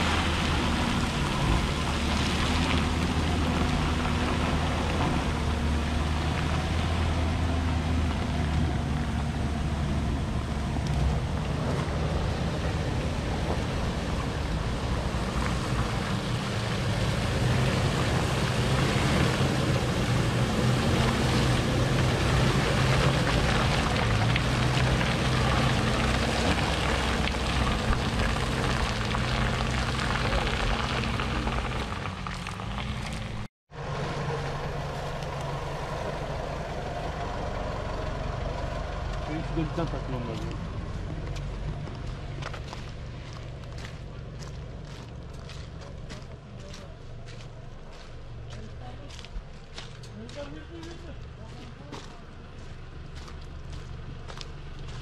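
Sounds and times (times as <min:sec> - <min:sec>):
off-road engines running under load: 0:00.0 - 0:55.0.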